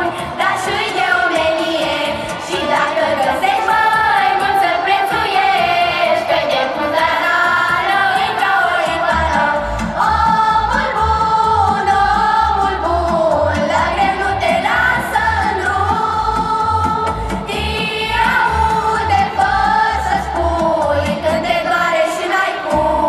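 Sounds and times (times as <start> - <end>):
carol singing: 0.0 - 23.0.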